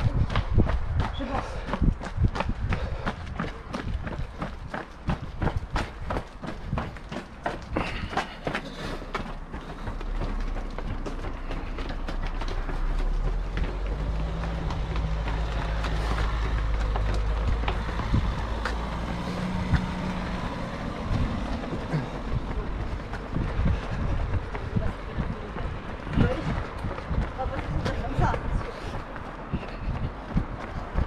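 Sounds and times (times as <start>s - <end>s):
running footsteps: 0.0s - 31.0s.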